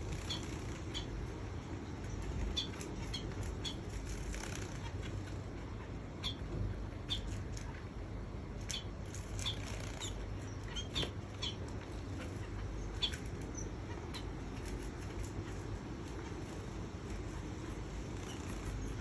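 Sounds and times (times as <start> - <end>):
wing flutters: 0.0 - 1.2, 2.0 - 5.7, 8.6 - 19.0
steady low hum: 0.0 - 19.0.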